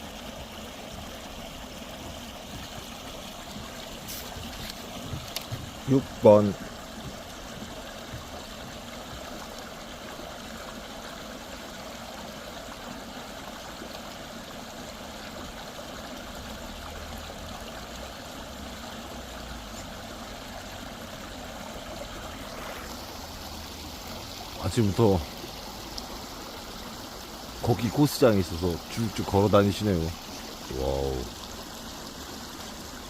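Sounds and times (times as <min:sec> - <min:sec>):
stream flowing: 0:00.0 - 0:33.0.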